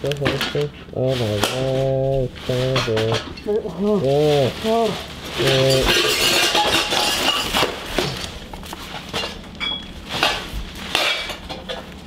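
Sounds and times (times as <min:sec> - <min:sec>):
food containers clattering: 0:00.0 - 0:12.0
plastic packaging rustling: 0:00.0 - 0:12.0.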